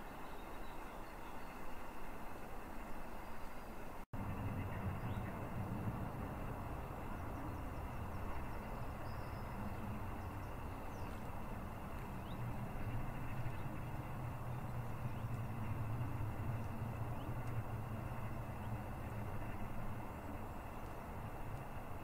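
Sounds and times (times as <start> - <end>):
low rumble: 4.2 - 22.0.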